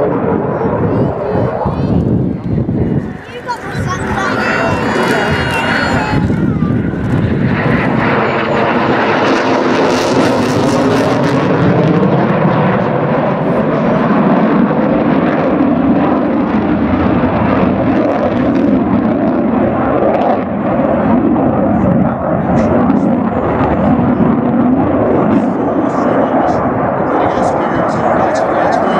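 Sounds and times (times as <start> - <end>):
aircraft flying past: 0.0 - 28.9.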